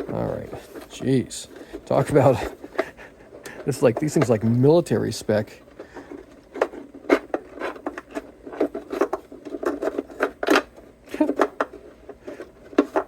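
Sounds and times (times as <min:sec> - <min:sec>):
small parts clicking and scraping: 0:00.0 - 0:13.0.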